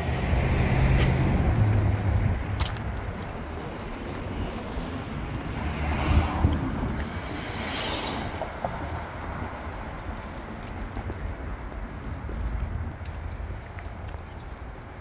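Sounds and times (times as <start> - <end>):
faint street noise: 0.0 - 15.0
wind buffeting microphone: 0.0 - 15.0.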